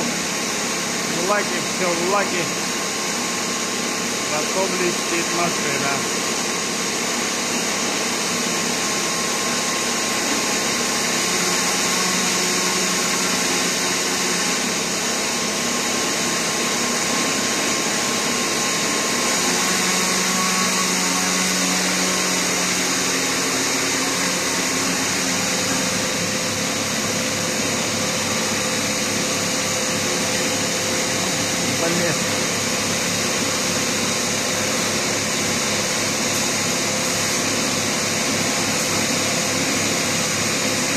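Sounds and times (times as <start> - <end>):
workshop machinery whirring: 0.0 - 40.9.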